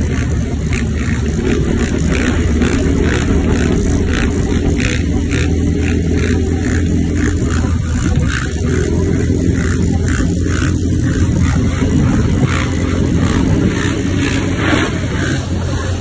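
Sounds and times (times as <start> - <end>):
motorbike engine: 0.0 - 16.0
quad engine running hard: 0.0 - 16.0
wind rushing over microphone: 0.0 - 16.0.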